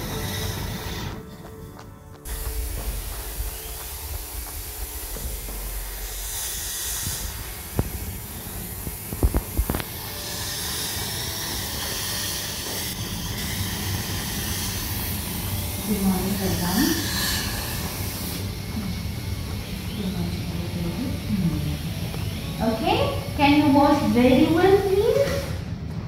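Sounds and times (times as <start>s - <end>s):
dental suction tube hissing: 2.3s - 23.3s.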